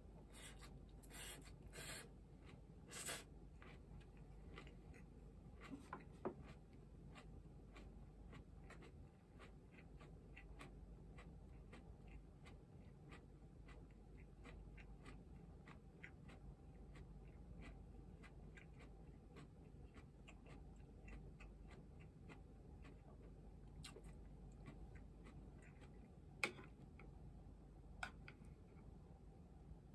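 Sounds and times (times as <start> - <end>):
crisp clicks of chopsticks eating: 3.6 - 27.1, 28.0 - 28.5.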